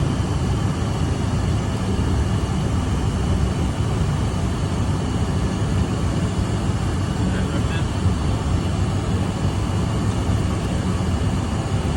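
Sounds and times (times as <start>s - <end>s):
jet engines running: 0.0s - 11.9s.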